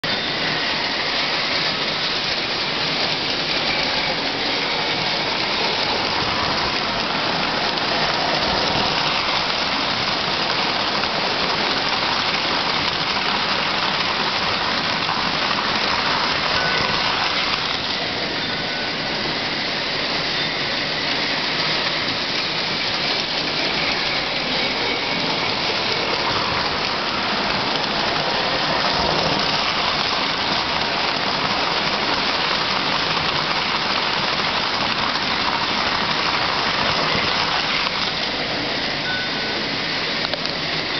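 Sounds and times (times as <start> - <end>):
model trains rattling on track: 0.0 - 40.9.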